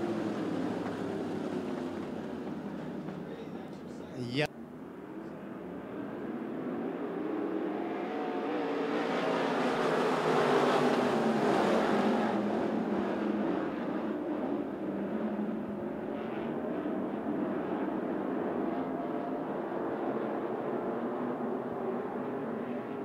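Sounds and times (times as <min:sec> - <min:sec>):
race car engines racing: 0:00.0 - 0:04.1, 0:04.8 - 0:23.0.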